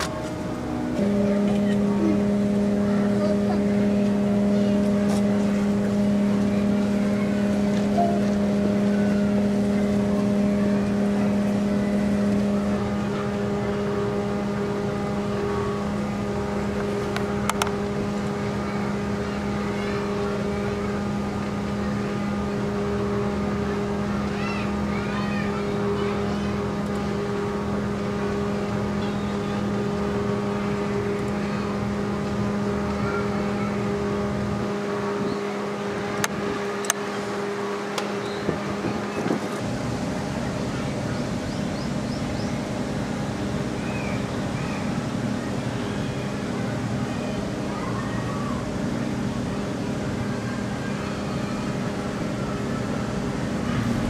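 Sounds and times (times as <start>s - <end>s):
low outdoor rumble: 0.0s - 44.4s, 48.6s - 54.0s
snow machine humming: 0.0s - 54.0s.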